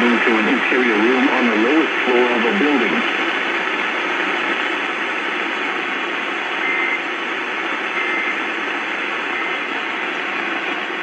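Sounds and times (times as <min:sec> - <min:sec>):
steady radio hiss: 0:00.0 - 0:11.0.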